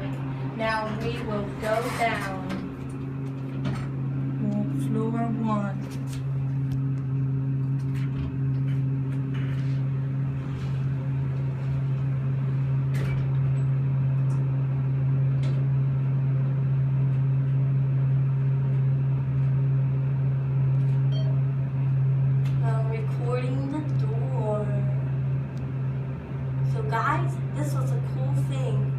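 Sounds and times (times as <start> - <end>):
elevator hum: 0.0 - 28.9.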